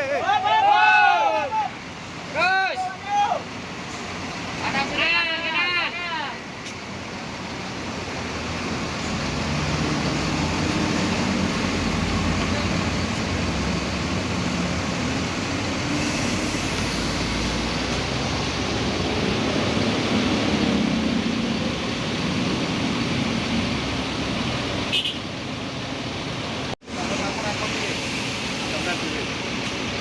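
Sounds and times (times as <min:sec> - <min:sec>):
road noise: 0:00.0 - 0:30.0
vehicle engine hum: 0:00.0 - 0:30.0.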